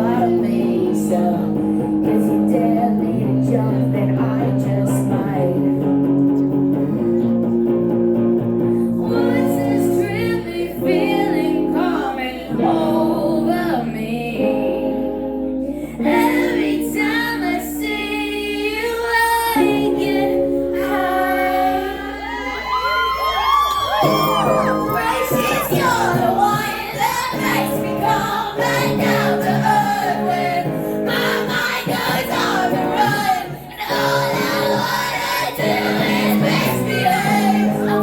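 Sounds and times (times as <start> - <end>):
woman singing: 0.0 - 6.1, 8.8 - 23.0, 24.2 - 38.0
guitar chords: 0.0 - 22.7, 23.7 - 38.0.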